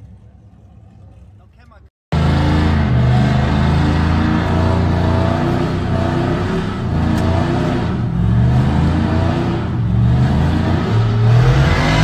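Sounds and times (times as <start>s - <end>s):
truck engine revving: 2.1s - 12.0s.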